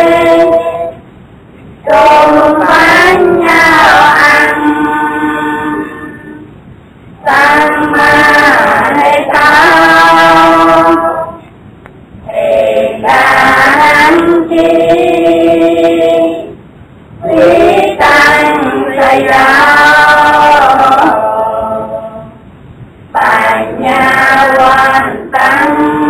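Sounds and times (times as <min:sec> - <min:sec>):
devotional singing in held notes: 0:00.0 - 0:26.0.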